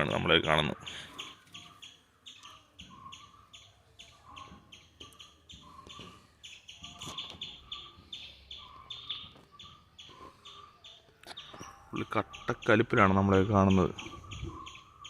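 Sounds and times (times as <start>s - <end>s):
small cage birds chirping: 0.0s - 15.0s.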